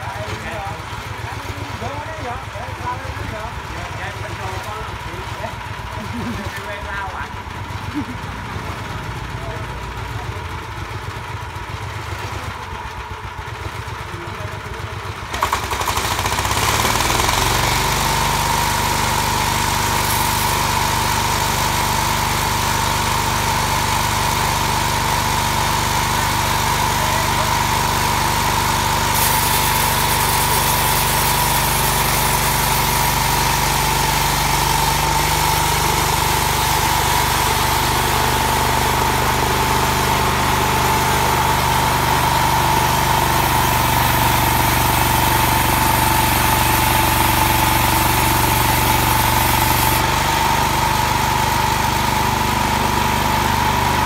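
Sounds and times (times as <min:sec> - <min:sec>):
small sawmill engine revving: 0:00.0 - 0:54.0.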